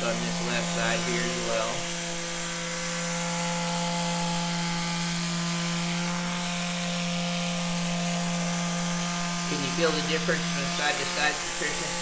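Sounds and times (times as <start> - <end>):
electric massager buzzing: 0.0 - 12.0.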